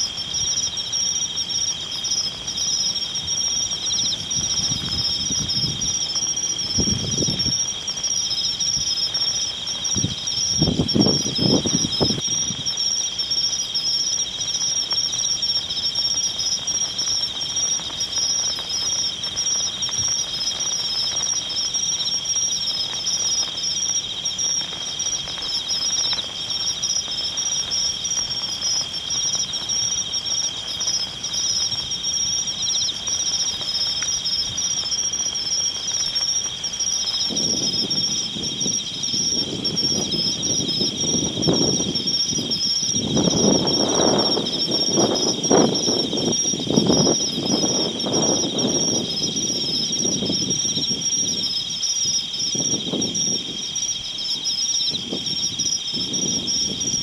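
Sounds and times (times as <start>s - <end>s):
insects trilling chorus: 0.0s - 57.0s.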